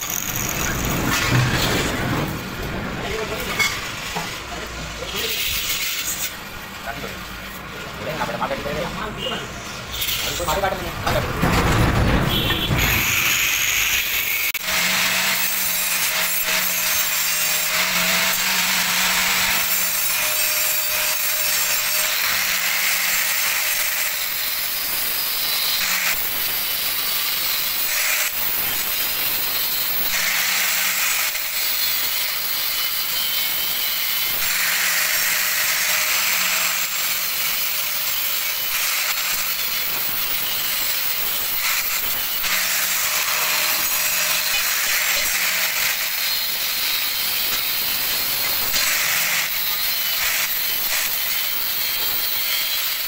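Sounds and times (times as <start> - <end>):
angle grinder cutting steel: 0.0 - 11.2, 12.3 - 53.0.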